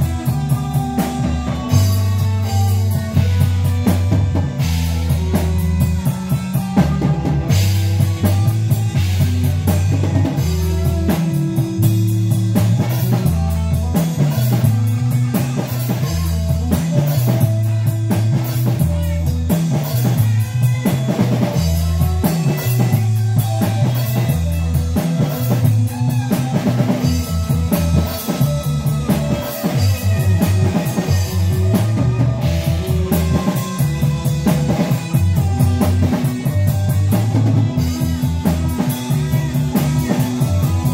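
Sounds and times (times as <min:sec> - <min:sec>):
bass guitar line: 0:00.0 - 0:40.9
drum kit beat: 0:00.0 - 0:40.9
electric guitar: 0:00.0 - 0:40.9.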